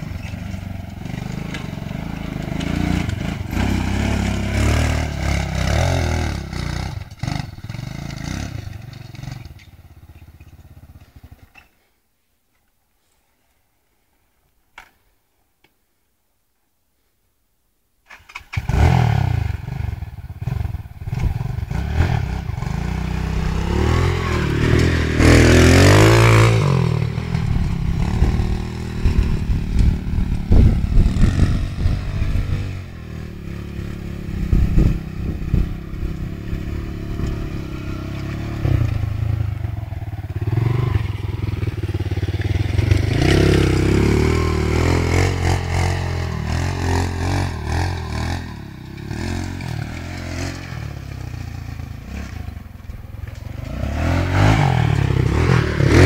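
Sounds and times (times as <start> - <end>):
atv engine revving: 0.0 - 11.6, 18.1 - 56.0.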